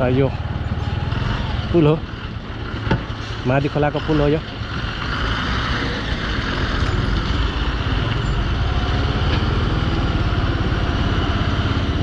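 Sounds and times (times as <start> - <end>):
tipper truck pulling away: 0.0 - 12.0
vehicle engines rumbling: 0.0 - 12.0.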